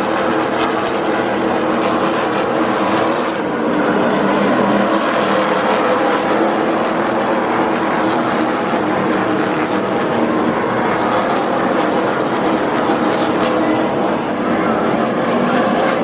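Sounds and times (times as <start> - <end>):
race trucks engines droning: 0.0 - 16.0.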